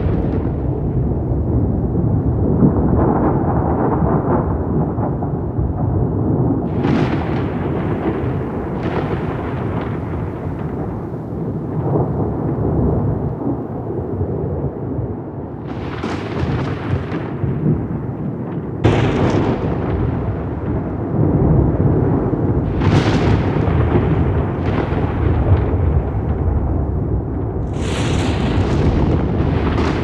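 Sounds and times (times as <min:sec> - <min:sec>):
rolling thunder rumble: 0:00.0 - 0:30.0
sharp thunder cracks: 0:00.0 - 0:30.0.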